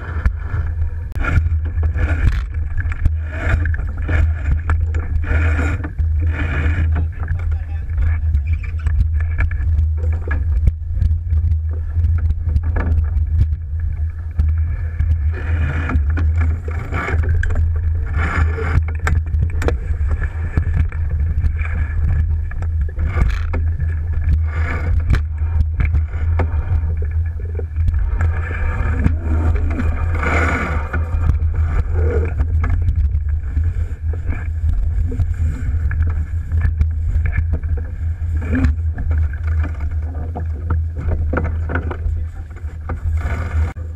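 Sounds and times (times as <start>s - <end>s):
water splashing along hull: 0.0s - 43.9s
wind rumble on microphone: 0.0s - 43.9s.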